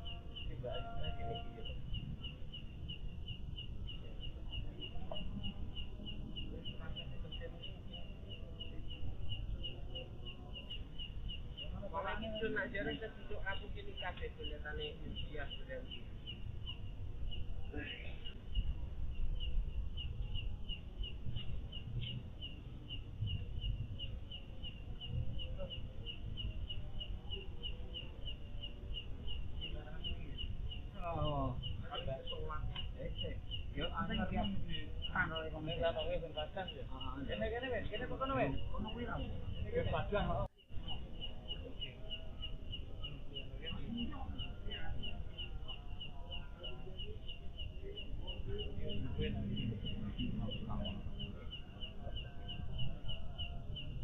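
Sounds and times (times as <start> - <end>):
faint voices: 0.0 - 54.0
insect chirping: 0.0 - 54.0.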